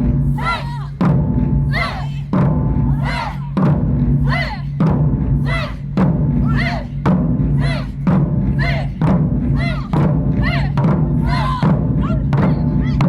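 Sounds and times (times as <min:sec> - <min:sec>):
deep drum strokes: 0:00.0 - 0:13.0.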